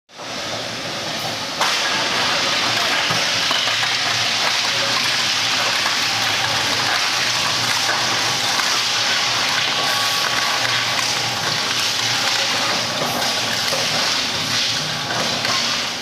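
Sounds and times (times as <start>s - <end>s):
metal shredder shredding aluminum: 1.6s - 16.0s.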